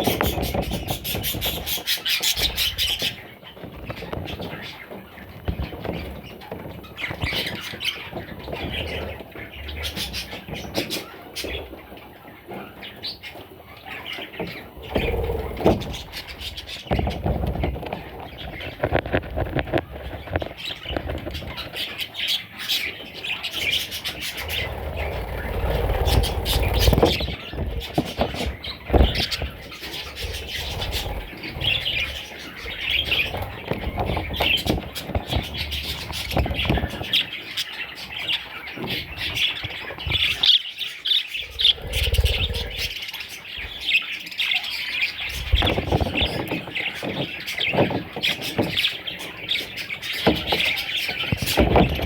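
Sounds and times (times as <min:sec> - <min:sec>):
budgerigars chirping and squawking: 0:00.0 - 0:52.0.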